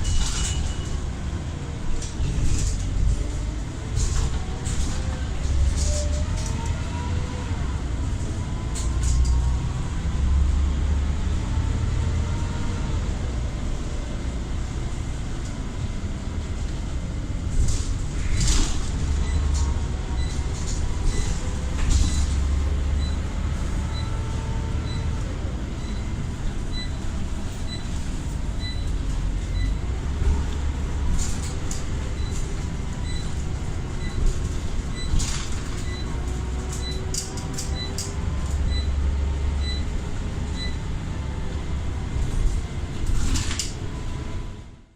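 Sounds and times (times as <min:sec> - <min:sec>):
heavy engine rumble: 0:00.0 - 0:44.9.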